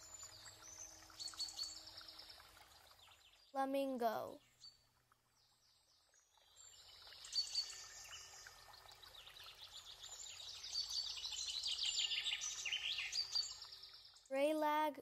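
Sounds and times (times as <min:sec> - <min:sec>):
songbirds chirping and trilling: 0:00.0 - 0:03.6, 0:04.4 - 0:14.6.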